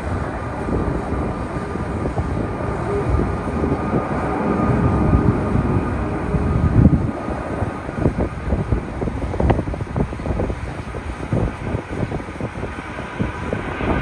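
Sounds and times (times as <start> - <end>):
jet engines rumbling with crackles: 0.0 - 14.0
wind on microphone: 0.0 - 14.0.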